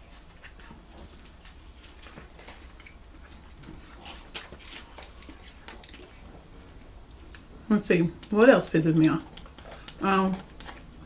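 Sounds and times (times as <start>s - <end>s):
people chewing: 0.0s - 11.0s.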